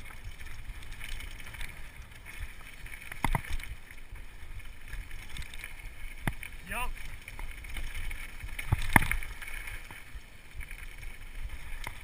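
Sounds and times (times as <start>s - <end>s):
trail rumble: 0.0s - 12.0s.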